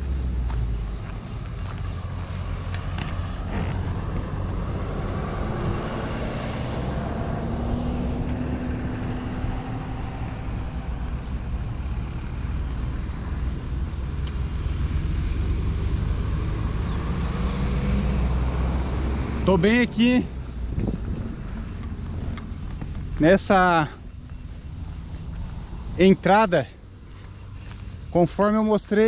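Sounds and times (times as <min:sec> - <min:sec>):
passing vehicle engine hum: 0:00.0 - 0:29.0
roadside traffic: 0:00.0 - 0:29.0
wind rumble on microphone: 0:00.8 - 0:19.4, 0:20.4 - 0:26.3.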